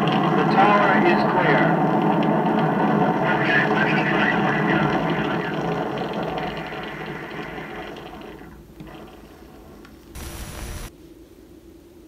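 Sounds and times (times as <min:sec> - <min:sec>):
rocket launch roar: 0:00.0 - 0:09.0, 0:10.2 - 0:10.9.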